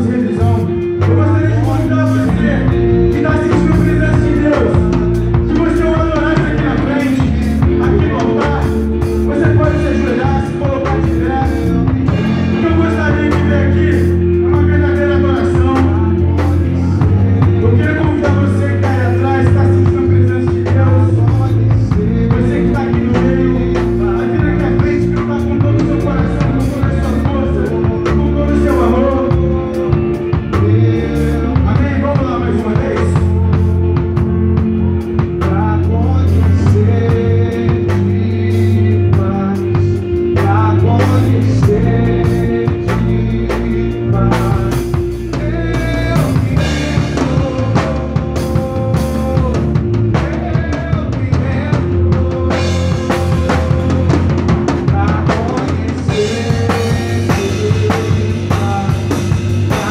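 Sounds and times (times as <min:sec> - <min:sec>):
live band music: 0:00.0 - 0:59.9
person singing: 0:00.0 - 0:59.9.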